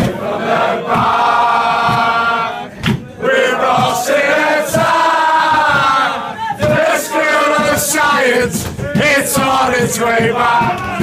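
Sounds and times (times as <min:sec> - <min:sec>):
crowd chanting in unison: 0:00.0 - 0:11.0
sharp knocks: 0:01.8 - 0:11.0.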